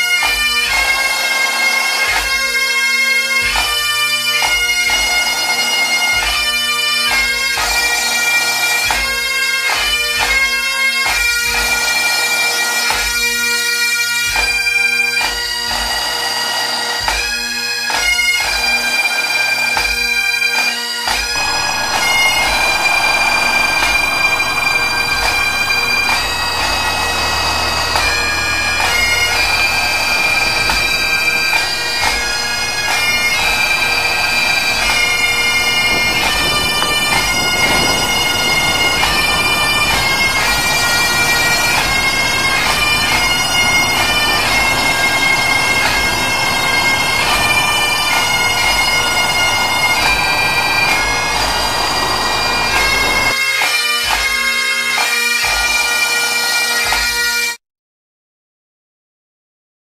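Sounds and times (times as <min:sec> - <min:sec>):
bagpipe melody over drone: 0:00.0 - 0:57.6.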